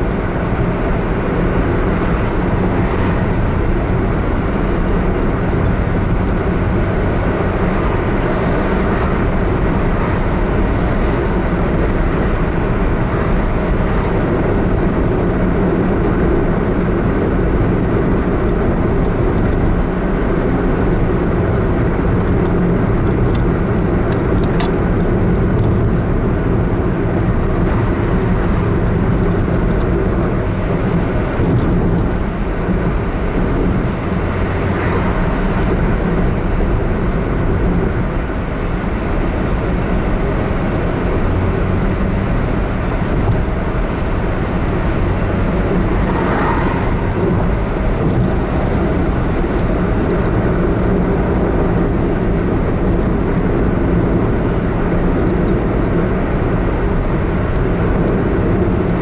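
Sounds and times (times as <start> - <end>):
car driving cabin noise: 0.0 - 59.0.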